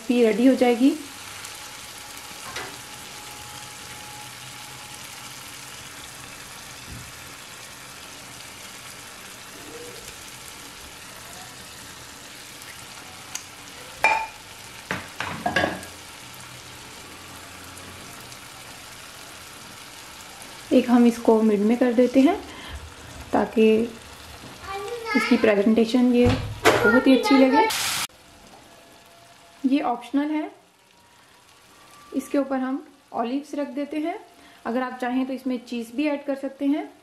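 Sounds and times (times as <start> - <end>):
food sizzling in oil: 0.0 - 37.0.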